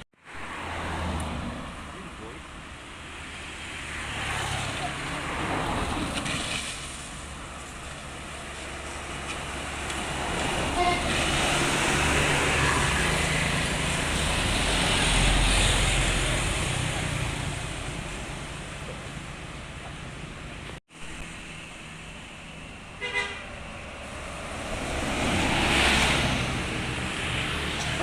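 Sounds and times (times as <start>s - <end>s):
vehicles passing: 0.2s - 28.0s.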